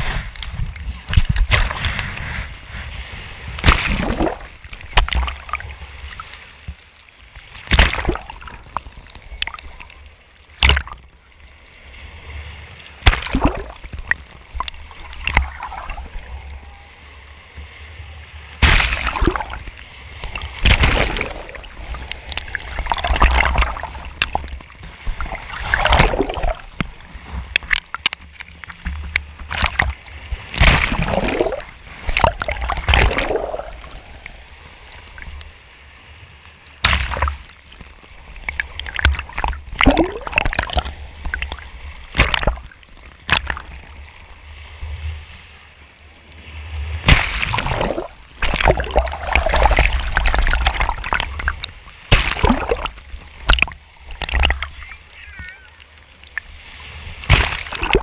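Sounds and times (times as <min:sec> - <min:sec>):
small waves breaking and splashing: 0:00.0 - 0:58.0.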